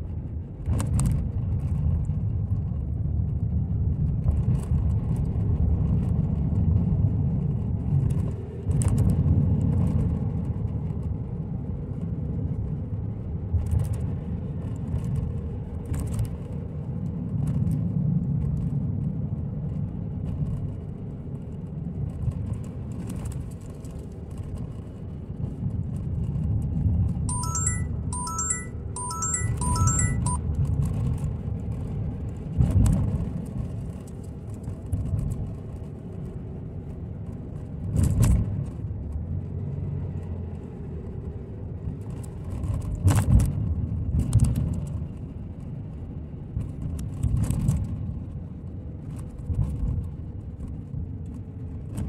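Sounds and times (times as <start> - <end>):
car tyre and engine rumble: 0.0 - 52.0.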